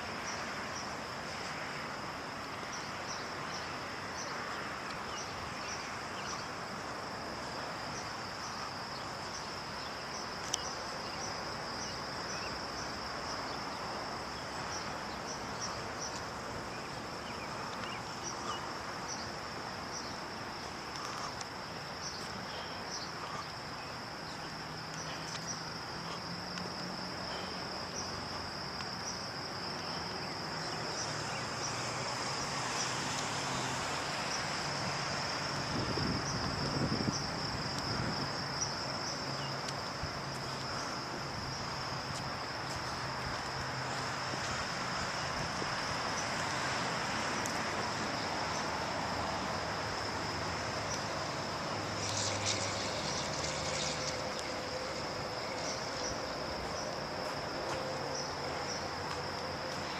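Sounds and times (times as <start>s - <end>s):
distant road traffic hum: 0.0s - 59.9s
insect chorus trilling: 0.0s - 59.9s.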